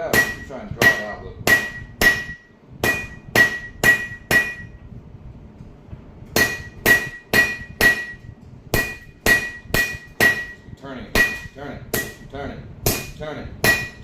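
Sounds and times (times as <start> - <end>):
hammer striking metal on anvil: 0.0 - 4.8, 6.3 - 14.0.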